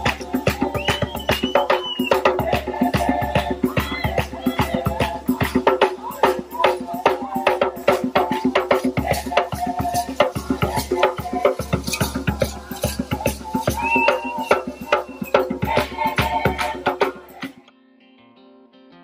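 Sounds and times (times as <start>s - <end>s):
hand drum beating: 0.0s - 17.7s
youth choir singing: 0.0s - 17.7s.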